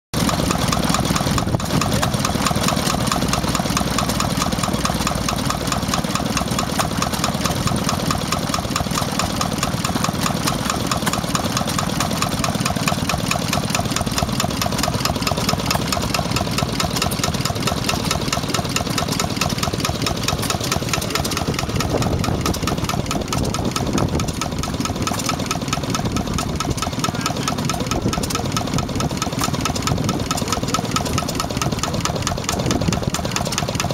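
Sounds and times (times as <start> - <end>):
stationary engine knocking: 0.2 - 33.9.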